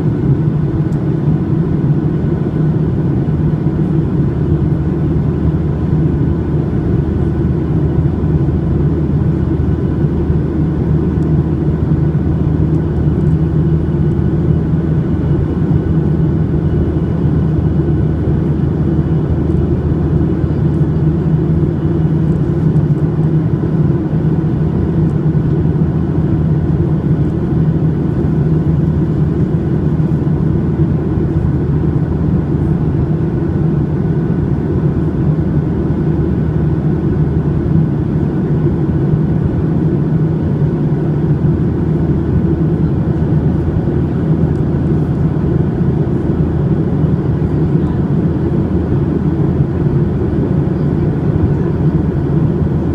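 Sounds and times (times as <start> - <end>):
airplane cabin engine drone: 0.0 - 52.9.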